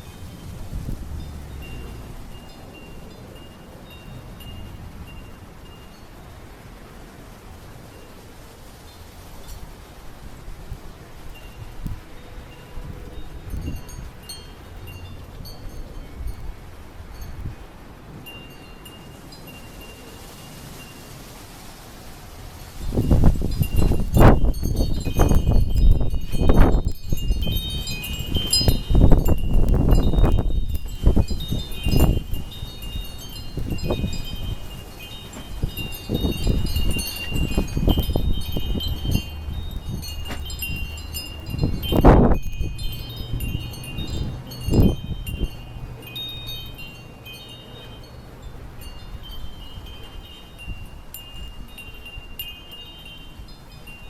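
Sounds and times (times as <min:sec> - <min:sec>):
wind chimes ringing: 0:00.0 - 0:06.2, 0:11.3 - 0:21.1, 0:22.6 - 0:54.0
wind gusts buffeting microphone: 0:00.0 - 0:07.7, 0:08.5 - 0:54.0.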